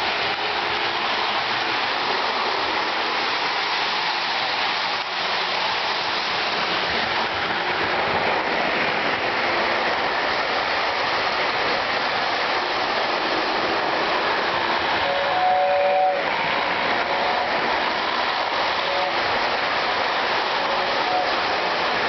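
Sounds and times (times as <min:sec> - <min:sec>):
model train rushing rumble: 0:00.0 - 0:22.0.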